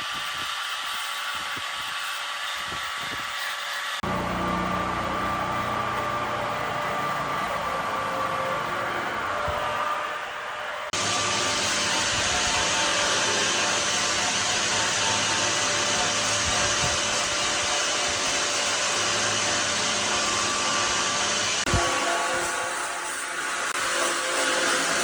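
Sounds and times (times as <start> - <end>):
small motor with air rush: 0.0 - 21.7.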